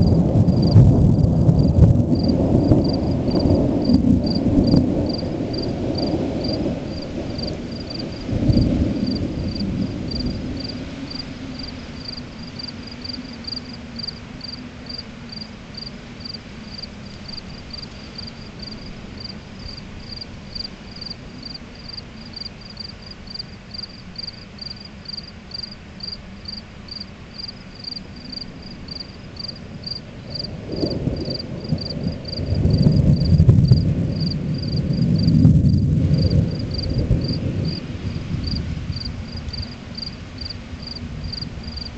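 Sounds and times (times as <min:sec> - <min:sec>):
thunder rumbling: 0:00.0 - 0:21.6, 0:27.4 - 0:41.9
crickets chirping: 0:00.0 - 0:41.9.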